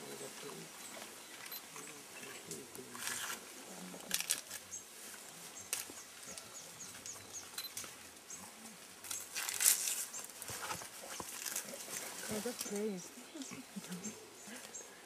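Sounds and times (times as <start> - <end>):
leaves rustling and stems crackling: 0.0 - 14.8.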